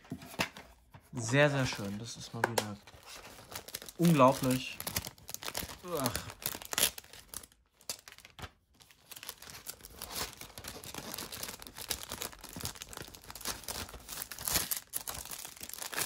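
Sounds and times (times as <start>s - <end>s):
plastic wrap crinkling and tearing: 1.3s - 16.0s.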